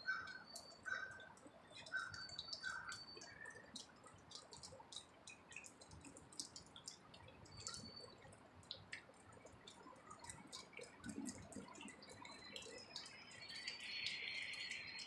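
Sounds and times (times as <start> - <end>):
faint irregular clicks and ticks: 0.0 - 15.0.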